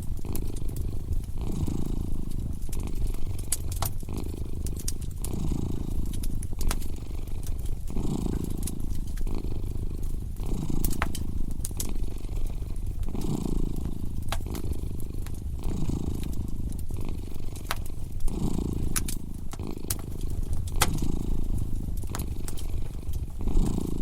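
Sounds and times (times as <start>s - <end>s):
cat purring: 0.0s - 24.0s
fireplace fire crackling: 0.0s - 24.0s.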